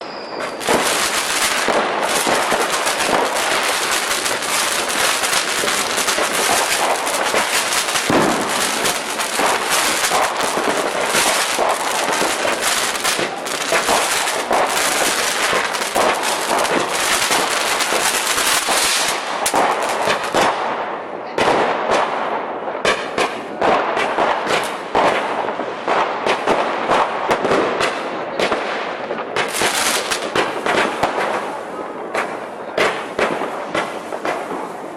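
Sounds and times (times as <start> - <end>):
firecrackers crackling and banging: 0.4 - 34.9.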